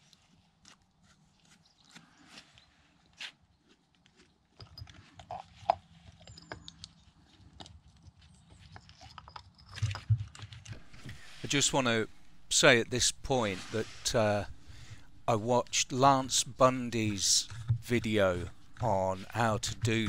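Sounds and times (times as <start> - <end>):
low steady hum: 2.6 - 20.0.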